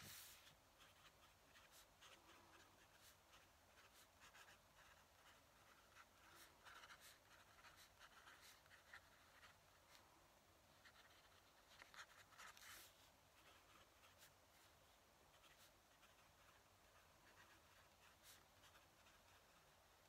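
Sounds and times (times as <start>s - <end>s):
pen nib scratching paper: 0.0s - 10.0s, 10.8s - 14.7s, 15.3s - 19.8s.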